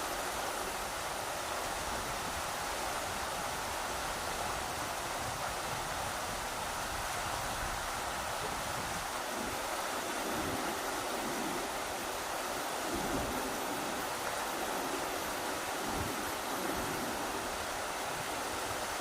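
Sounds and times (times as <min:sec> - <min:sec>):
low gusts of wind: 0:00.0 - 0:19.0
rushing river water: 0:00.0 - 0:19.0.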